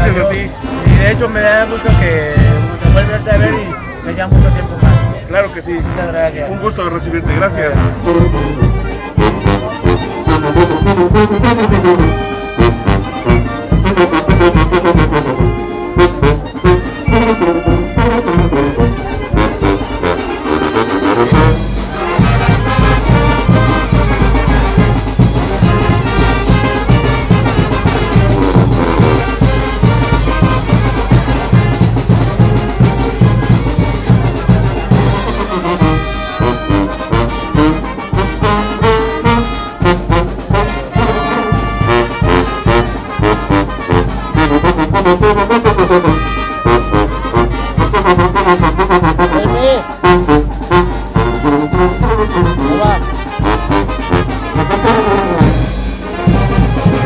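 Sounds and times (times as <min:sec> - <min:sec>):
brass band playing: 0:00.0 - 0:57.0
bass drum: 0:00.8 - 0:06.1, 0:07.2 - 0:57.0.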